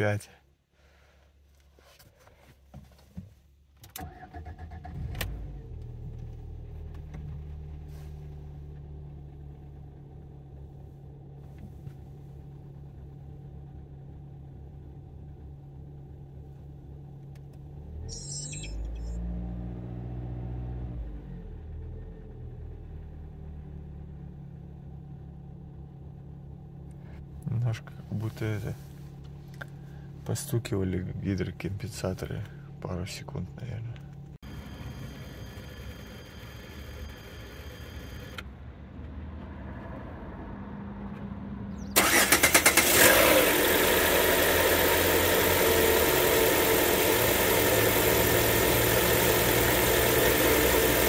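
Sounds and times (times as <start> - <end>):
car engine starting and idling: 3.7 - 51.0.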